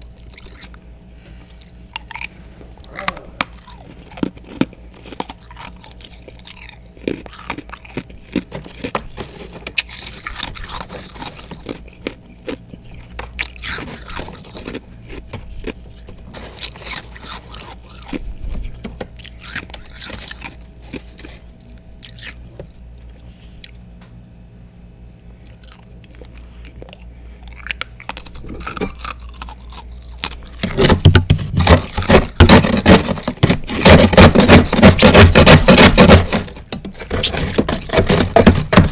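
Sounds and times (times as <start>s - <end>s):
chewing ice crunches: 0.0s - 0.8s, 1.4s - 23.8s, 25.4s - 38.9s.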